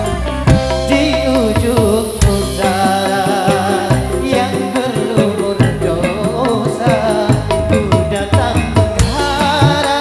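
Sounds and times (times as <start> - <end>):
drums fast beat: 0.0 - 10.0
live band playing: 0.0 - 10.0.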